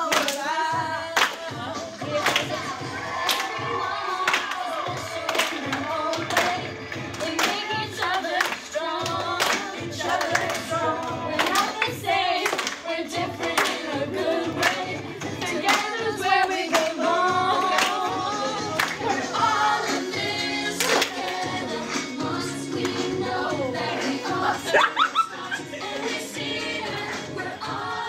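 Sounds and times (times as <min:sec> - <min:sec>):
dance song with singing: 0:00.0 - 0:28.0.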